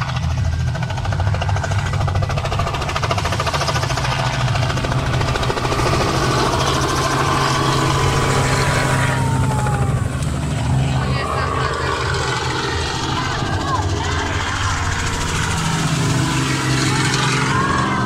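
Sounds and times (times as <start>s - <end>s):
helicopter engine hum: 0.0s - 18.0s
helicopter rotor chopping: 0.0s - 18.0s
helicopter whine: 0.0s - 18.0s.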